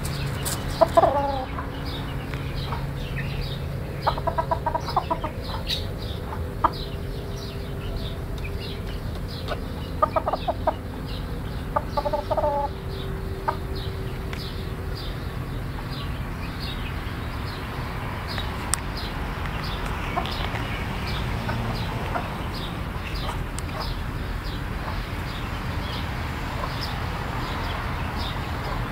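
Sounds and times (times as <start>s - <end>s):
chicken clucking: 0.0s - 16.1s, 19.5s - 28.9s.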